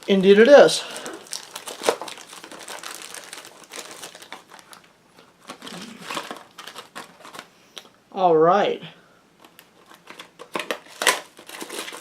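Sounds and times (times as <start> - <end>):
packaging crinkling and rustling: 0.0 - 7.5, 9.4 - 12.0.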